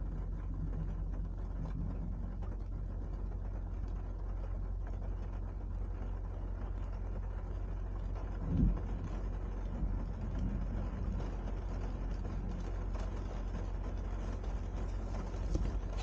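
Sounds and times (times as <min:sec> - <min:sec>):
faint hiss of rain: 0:00.0 - 0:16.0
rainstorm low rumble: 0:00.0 - 0:16.0.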